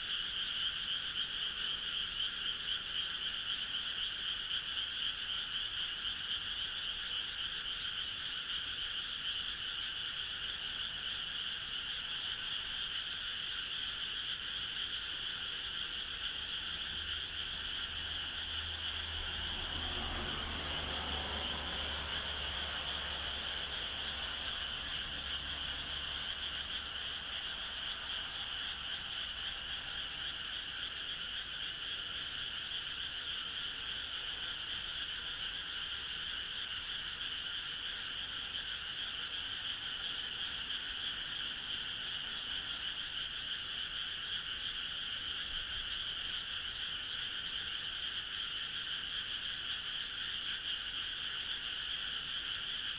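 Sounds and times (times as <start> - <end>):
frog chorus: 0.0 - 52.9.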